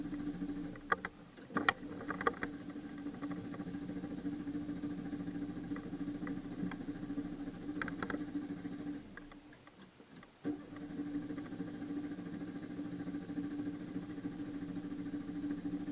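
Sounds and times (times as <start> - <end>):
starter motor cranking engine: 0.0 - 9.4, 10.4 - 15.9.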